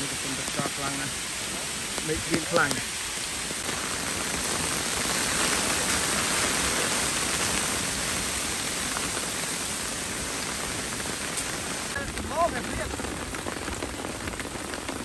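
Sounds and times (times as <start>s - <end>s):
heavy rain on leaves: 0.0s - 15.0s.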